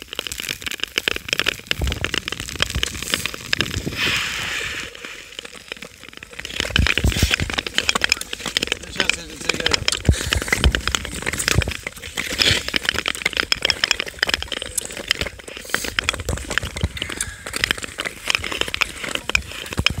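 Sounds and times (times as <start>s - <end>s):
ice skates scraping on ice: 0.0s - 13.3s, 14.0s - 20.0s
sharp clicks on ice: 0.0s - 20.0s.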